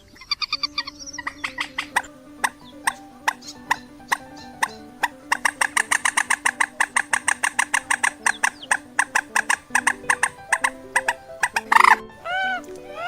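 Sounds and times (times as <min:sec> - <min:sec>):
background music with low notes: 0:00.0 - 0:13.0
bird call of sharp repeated notes: 0:00.0 - 0:13.0.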